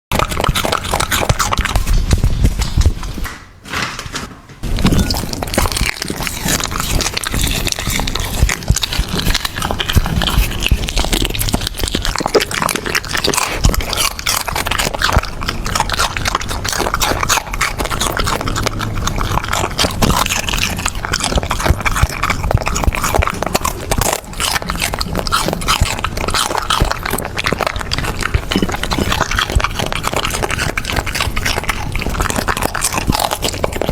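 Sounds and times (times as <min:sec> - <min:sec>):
dog crunching a carrot: 0:00.1 - 0:03.9, 0:04.6 - 0:33.9.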